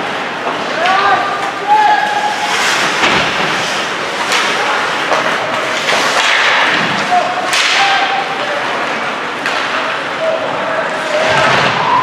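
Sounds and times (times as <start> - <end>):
hockey sticks and puck cracking: 0.0 - 10.3.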